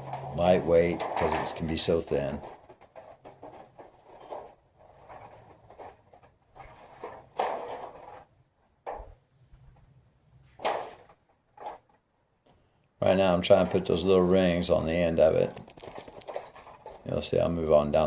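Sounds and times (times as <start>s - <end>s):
metal sheet rustling and crinkling: 0.0s - 12.1s, 13.2s - 18.0s.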